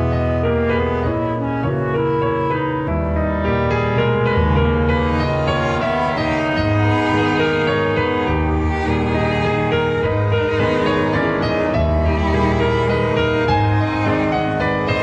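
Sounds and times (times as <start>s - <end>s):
piano over low bass music: 0.0s - 15.0s.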